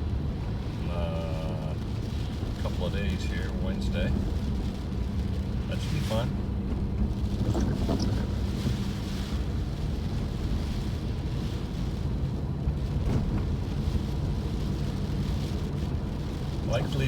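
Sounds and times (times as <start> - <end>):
car driving rumble: 0.0 - 17.0
rainstorm: 0.0 - 17.0.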